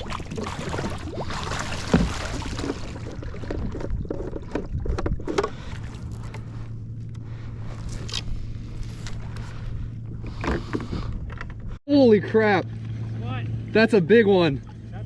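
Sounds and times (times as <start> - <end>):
low hum: 0.0 - 15.0
water: 0.0 - 15.0.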